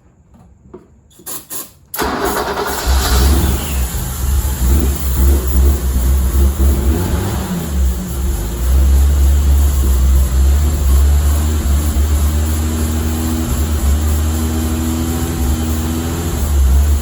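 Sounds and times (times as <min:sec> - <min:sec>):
car engine droning: 0:02.0 - 0:17.0.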